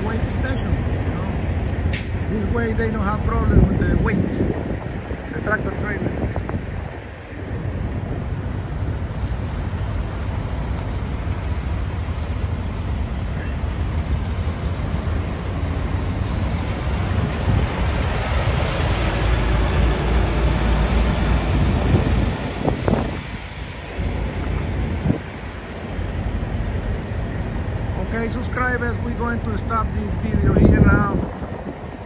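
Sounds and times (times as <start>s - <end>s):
diesel truck engine rumble: 0.0s - 32.0s.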